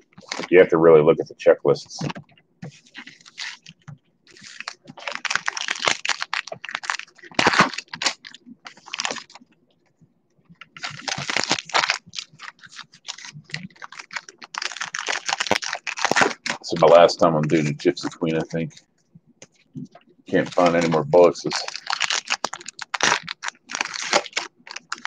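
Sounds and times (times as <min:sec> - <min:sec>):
card wrappers crinkling: 0:00.0 - 0:00.5, 0:02.0 - 0:09.5, 0:10.6 - 0:18.8, 0:20.3 - 0:25.0.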